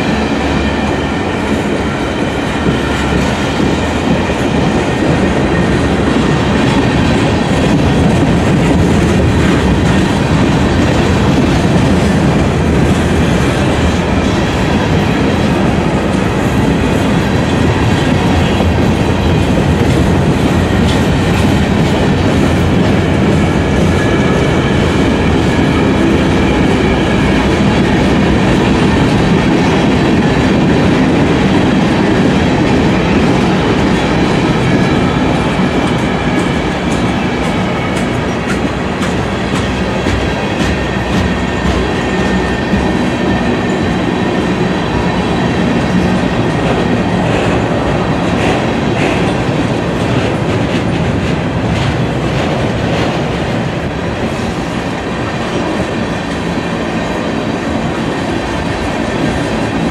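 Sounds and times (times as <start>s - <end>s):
freight train rolling past: 0.0s - 59.9s
wheels clacking over rail joints: 0.0s - 59.9s.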